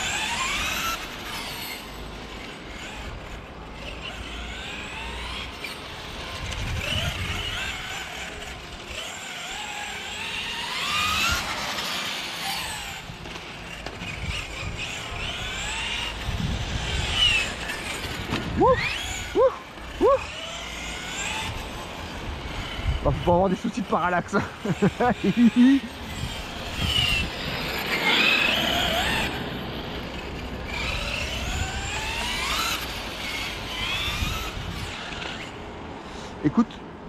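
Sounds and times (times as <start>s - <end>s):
electric motor whining: 0.0s - 35.6s.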